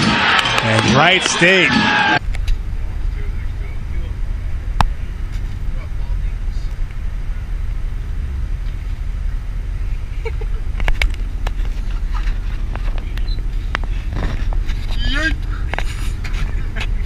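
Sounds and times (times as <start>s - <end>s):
bus road rumble: 0.0s - 17.0s.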